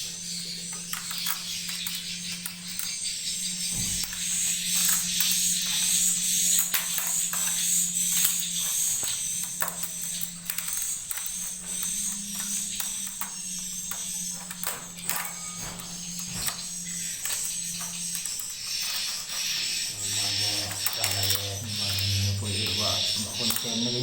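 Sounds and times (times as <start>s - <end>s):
steady low hum: 0.0s - 24.0s
swiftlets twittering: 0.0s - 24.0s.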